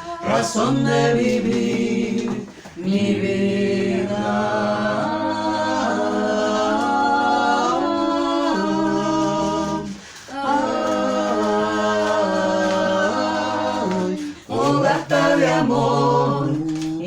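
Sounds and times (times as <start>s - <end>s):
voices singing a cappella: 0.0s - 17.0s.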